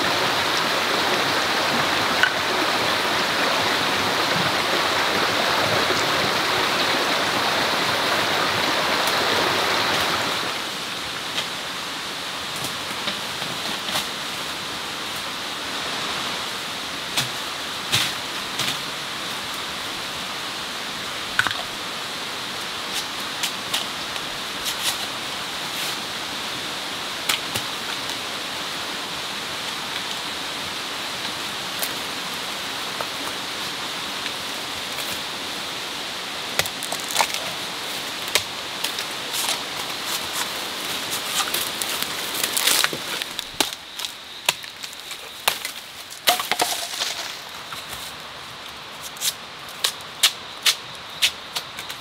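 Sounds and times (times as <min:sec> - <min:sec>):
steady rushing hiss: 0:00.0 - 0:52.0.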